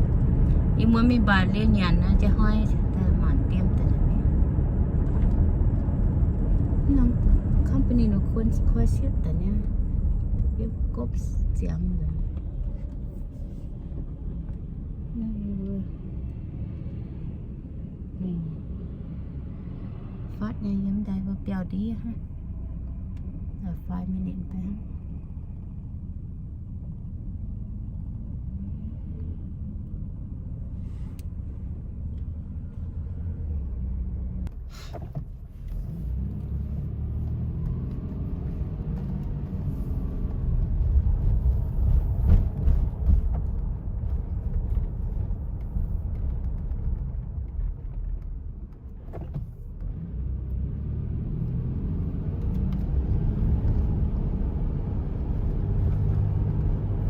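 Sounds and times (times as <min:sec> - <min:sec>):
low uneven rumbling: 0:00.0 - 0:50.4.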